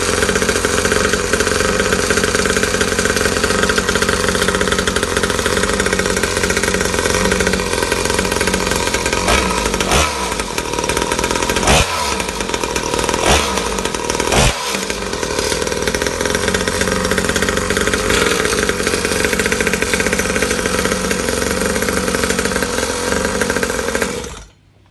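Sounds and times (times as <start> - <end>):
engine throttle blips: 0.0 - 24.9
small two-stroke engine idling: 0.0 - 24.9.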